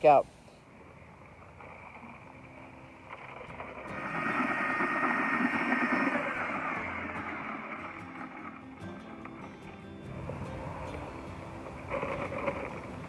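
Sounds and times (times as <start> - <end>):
background music: 2.2 - 13.0.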